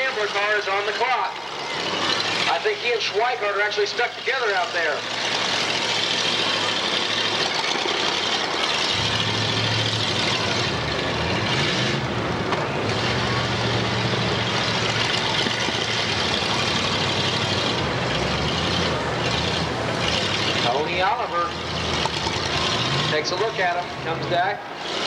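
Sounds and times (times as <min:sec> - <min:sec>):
car engine revving: 0:00.0 - 0:25.0
car engines running: 0:00.0 - 0:25.0.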